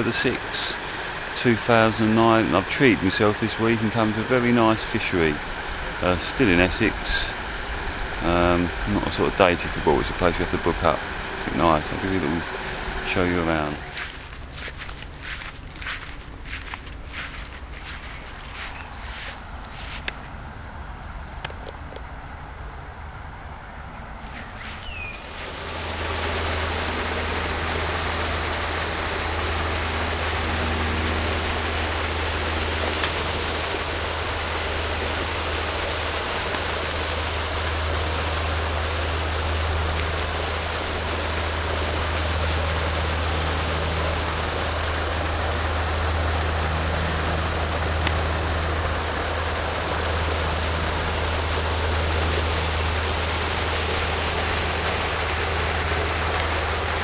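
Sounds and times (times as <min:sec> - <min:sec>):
fountain spraying water: 0:00.0 - 0:20.2, 0:24.6 - 0:57.0
low hum: 0:00.0 - 0:57.0.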